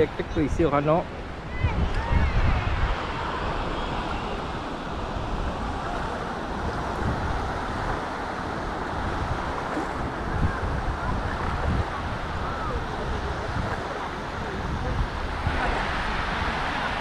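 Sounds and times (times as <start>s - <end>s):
distant surf: 0.0s - 17.0s
wind buffeting microphone: 0.0s - 17.0s
shallow sea water washing: 2.1s - 17.0s.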